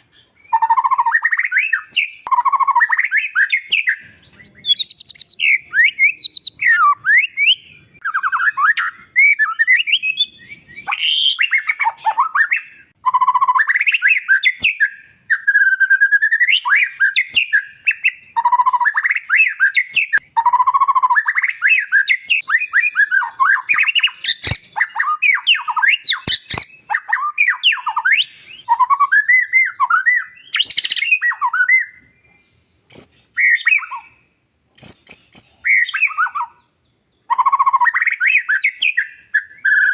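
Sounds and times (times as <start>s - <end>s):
sharp bird clicks: 0.0s - 9.0s, 9.8s - 15.0s, 15.8s - 32.1s, 32.9s - 34.1s, 34.7s - 36.6s
bird singing whistled phrases: 0.0s - 39.9s.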